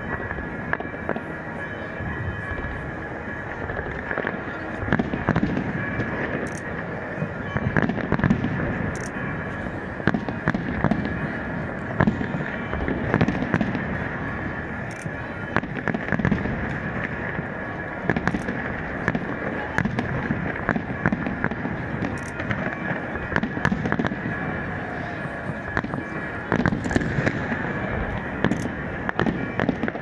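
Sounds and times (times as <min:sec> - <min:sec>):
continuous rumbling din: 0:00.0 - 0:30.0
fireworks bangs and crackle: 0:00.0 - 0:30.0.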